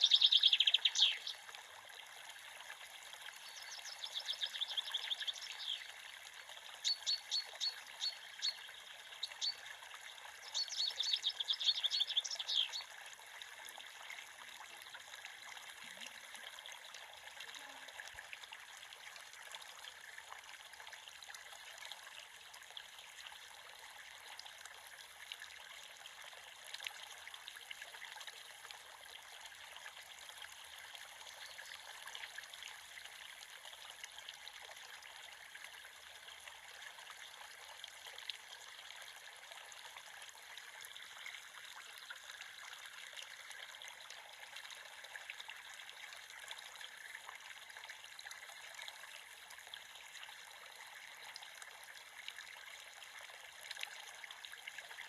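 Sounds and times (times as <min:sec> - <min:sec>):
creek babbling over stones: 0:00.0 - 0:55.0.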